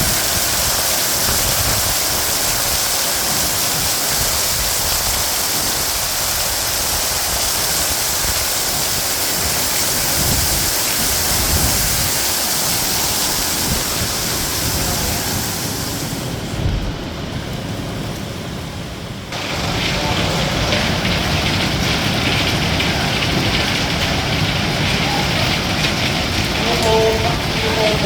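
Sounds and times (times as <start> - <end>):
hailstones pelting down: 0.0 - 17.6, 19.3 - 28.0.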